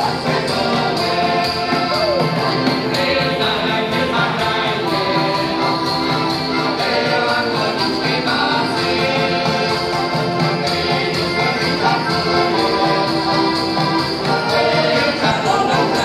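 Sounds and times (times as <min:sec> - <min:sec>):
button accordions playing folk tune: 0:00.0 - 0:16.0
men singing: 0:00.0 - 0:16.0.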